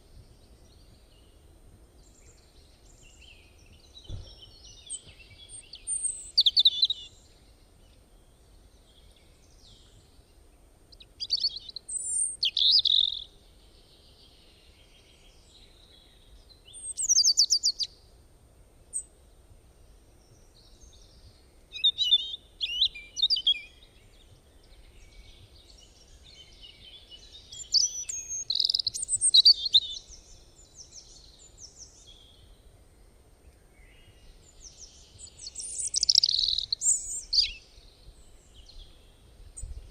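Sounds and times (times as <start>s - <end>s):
small birds chirping and trilling: 0.0s - 18.1s, 19.8s - 39.9s.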